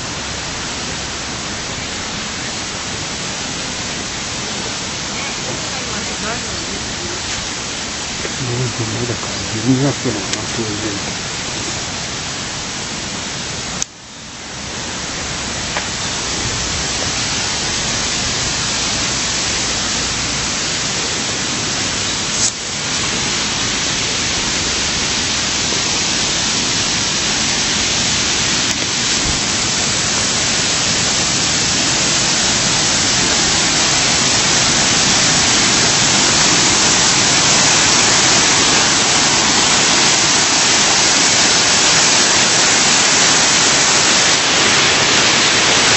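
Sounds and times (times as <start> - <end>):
flowing water rushing: 0.0 - 45.9.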